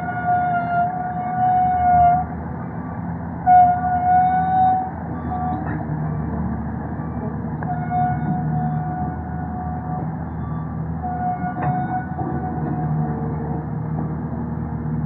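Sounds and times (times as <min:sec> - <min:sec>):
excavator engine rumbling: 0:00.0 - 0:15.0.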